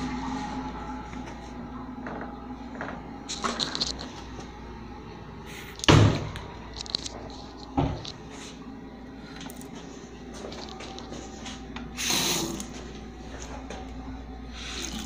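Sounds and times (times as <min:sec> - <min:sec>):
room hum: 0:00.0 - 0:15.0.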